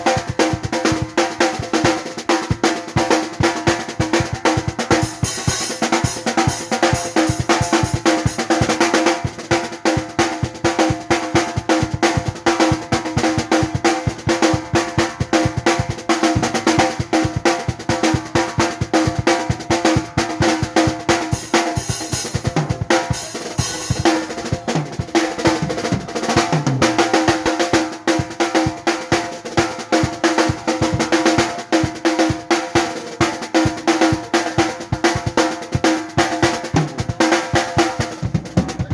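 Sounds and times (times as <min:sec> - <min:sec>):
drum kit playing fast: 0:00.0 - 0:38.9.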